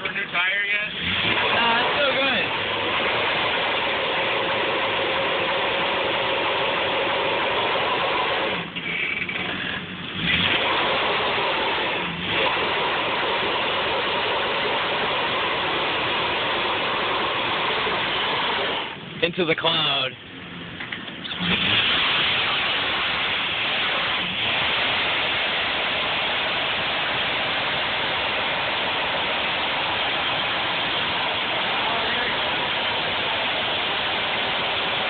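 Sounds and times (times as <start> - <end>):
car engine at high revs: 0.0 - 35.0.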